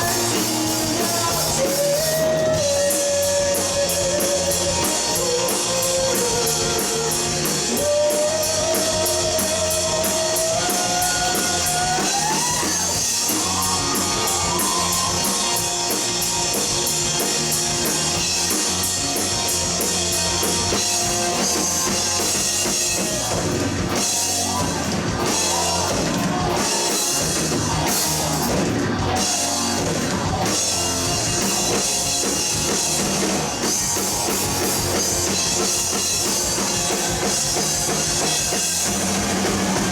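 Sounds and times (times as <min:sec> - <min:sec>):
bass guitar: 0:00.0 - 0:39.9
distorted electric guitars: 0:00.0 - 0:39.9
drum kit with cymbals: 0:00.0 - 0:39.9.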